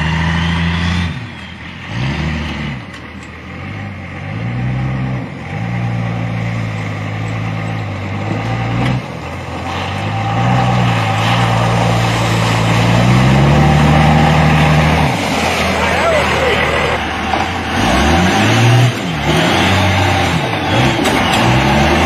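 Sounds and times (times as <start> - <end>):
turbo engine revving under load: 0.0 - 22.0.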